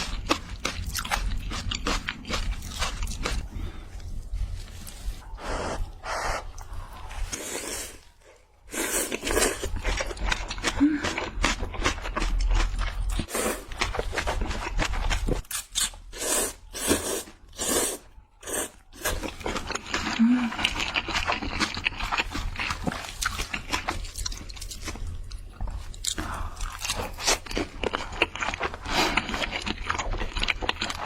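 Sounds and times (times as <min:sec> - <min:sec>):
person eating crunchy food: 0:00.0 - 0:04.2, 0:06.6 - 0:31.0.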